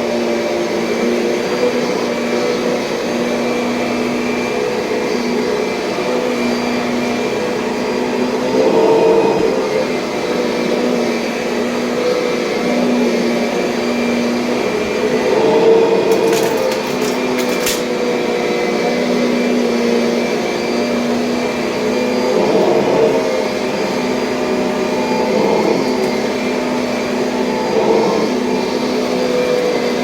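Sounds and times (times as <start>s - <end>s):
vacuum cleaner motor droning: 0.0s - 30.0s.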